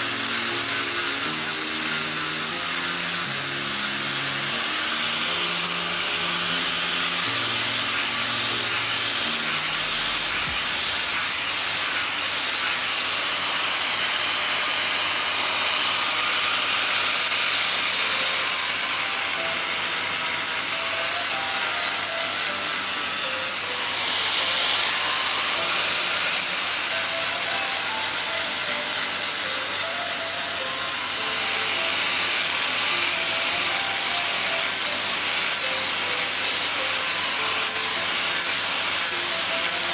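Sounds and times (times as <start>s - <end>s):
sander grinding metal: 0.0s - 39.9s.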